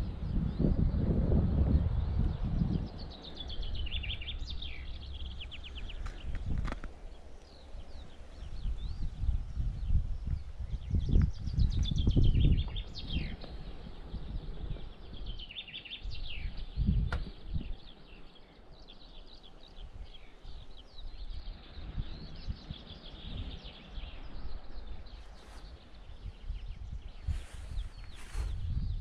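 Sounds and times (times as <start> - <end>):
low rumbling bursts: 0.0 - 29.0
songbirds chirping and trilling: 0.0 - 29.0.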